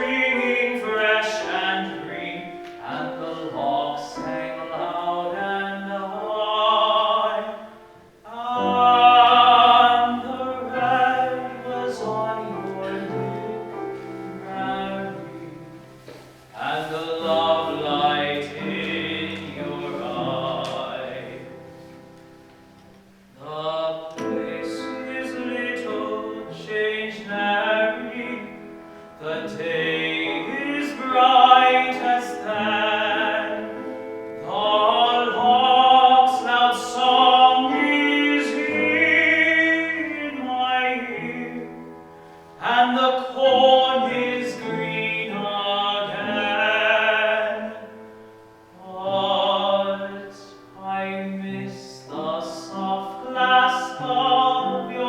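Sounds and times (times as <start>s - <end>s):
man singing with vibrato: 0.0s - 21.9s, 23.3s - 55.0s
piano accompaniment: 0.0s - 55.0s.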